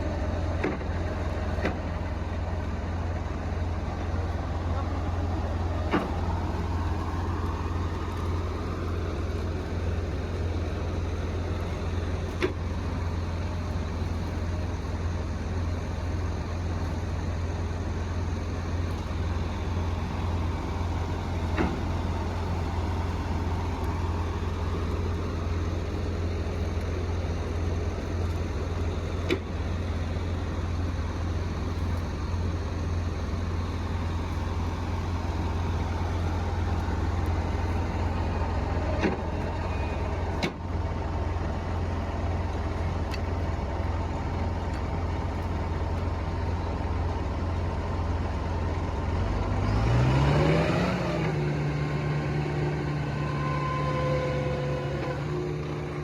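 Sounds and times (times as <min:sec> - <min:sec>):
faint whine: 0:00.0 - 0:49.8
heavy diesel engine running: 0:00.0 - 0:56.0.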